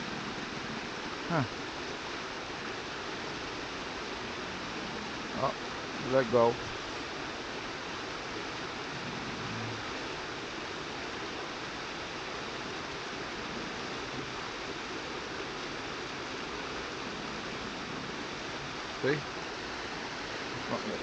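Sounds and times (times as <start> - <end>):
river current rushing: 0.0 - 21.0.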